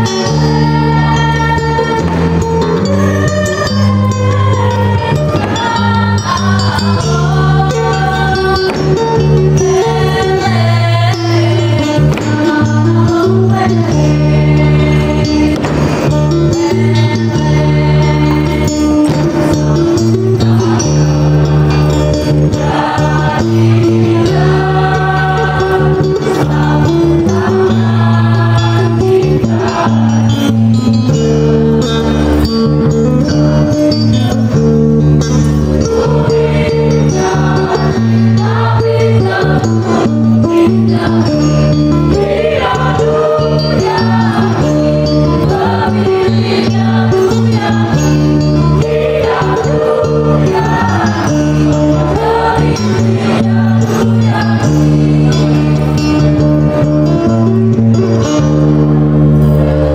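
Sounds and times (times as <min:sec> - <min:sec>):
choir singing: 0:00.0 - 0:32.6, 0:35.6 - 0:59.9
low bass: 0:00.0 - 0:59.9.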